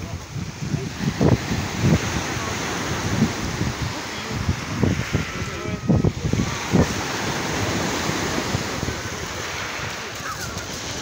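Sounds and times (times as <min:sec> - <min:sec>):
sea surf washing onto shore: 0:00.0 - 0:11.0
wind buffeting microphone: 0:00.0 - 0:11.0.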